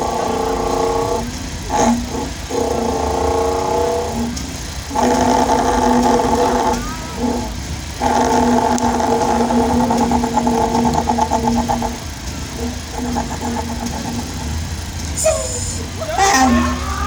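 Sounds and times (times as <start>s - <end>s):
man imitating diesel engine: 0.0s - 17.0s.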